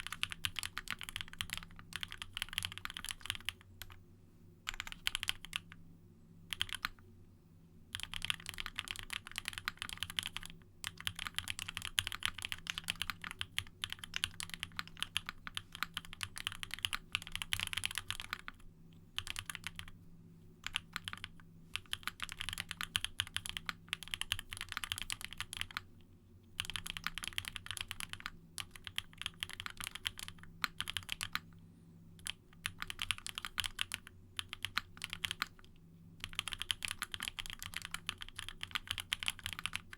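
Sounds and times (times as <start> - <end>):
mechanical keyboard typing: 0.0 - 4.0, 4.7 - 5.7, 6.5 - 7.0, 7.9 - 18.6, 19.2 - 19.9, 20.6 - 25.9, 26.6 - 31.5, 32.2 - 39.9.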